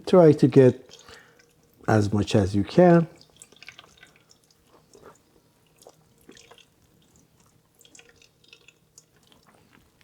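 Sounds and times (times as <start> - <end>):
wet squishing of onion pulp: 0.1 - 10.0.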